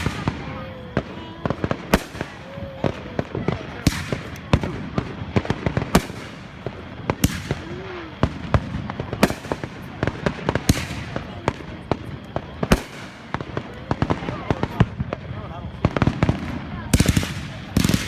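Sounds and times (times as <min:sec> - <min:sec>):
firework hiss: 0:00.0 - 0:18.0
fireworks bangs and pops: 0:00.0 - 0:18.0.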